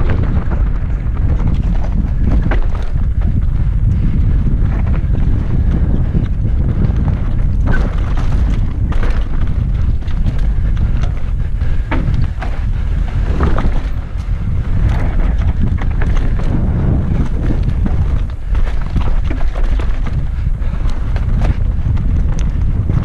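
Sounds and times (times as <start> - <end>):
bike rattling over rocks: 0.0 - 23.0
wind buffeting microphone: 0.0 - 23.0.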